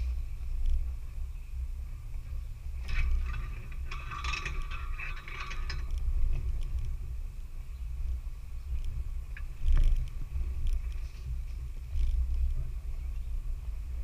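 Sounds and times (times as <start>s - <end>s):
low engine rumble: 0.0s - 14.0s
creaks and rattles: 1.8s - 14.0s.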